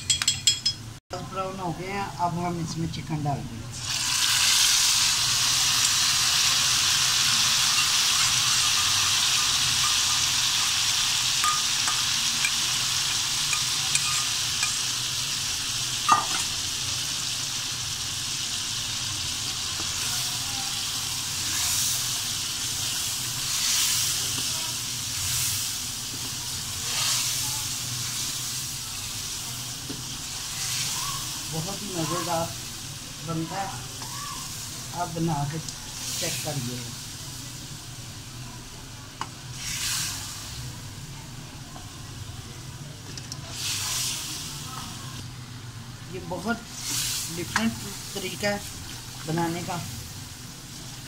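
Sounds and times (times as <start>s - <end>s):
chicken sizzling in a pan: 3.7s - 51.0s.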